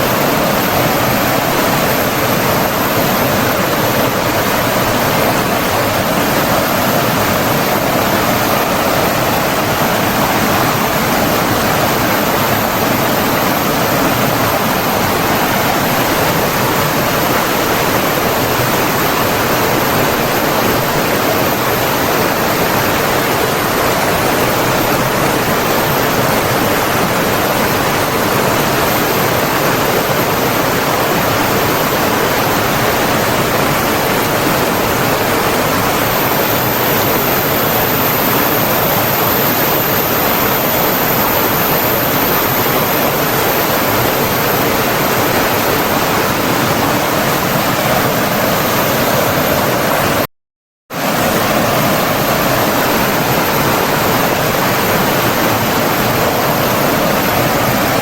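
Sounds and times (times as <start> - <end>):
rush of running water: 0.0 - 50.3, 50.9 - 58.0.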